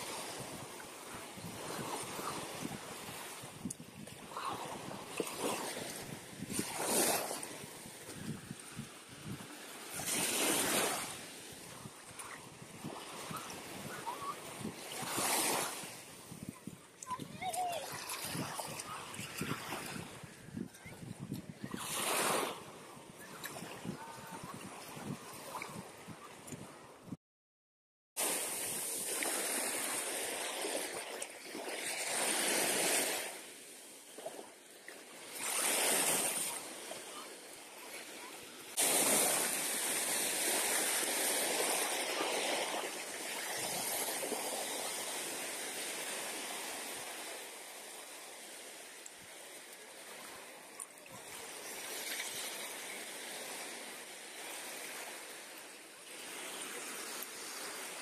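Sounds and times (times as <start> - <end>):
waves breaking on beach: 0.0 - 27.2, 28.2 - 58.0.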